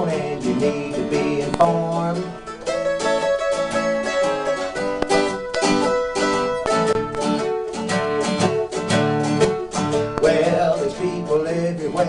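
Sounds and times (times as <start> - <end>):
acoustic country instrumental: 0.0 - 12.0.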